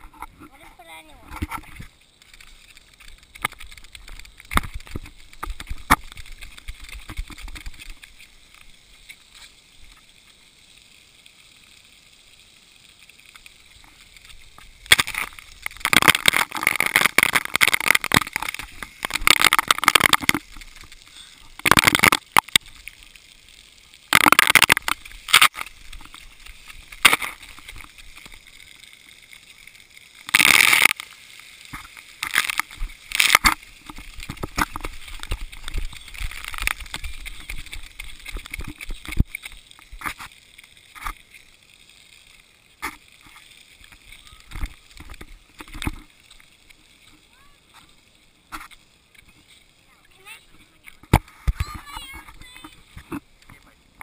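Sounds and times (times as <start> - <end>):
water jets splashing on camera: 0.0 - 54.0.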